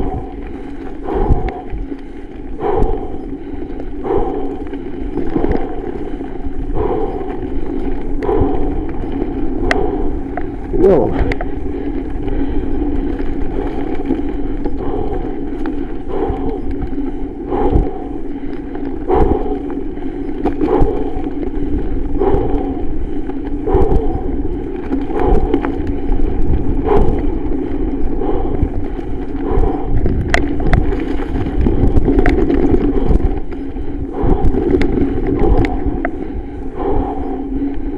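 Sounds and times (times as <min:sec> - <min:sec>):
mountain bike rolling on dirt: 0:00.0 - 0:37.9.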